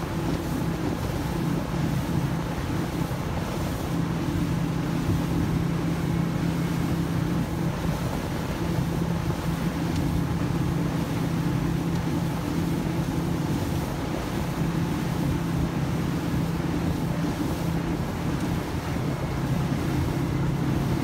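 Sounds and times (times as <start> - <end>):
motorboat engine humming: 0.0 - 21.0
wind and water rushing: 0.0 - 21.0.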